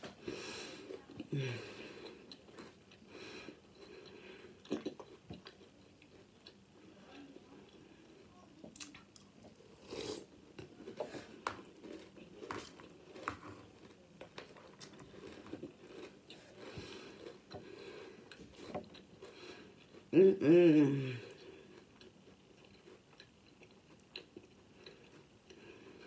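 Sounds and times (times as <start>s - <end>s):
chewing crunchy cereal: 0.8s - 20.1s, 21.3s - 26.0s.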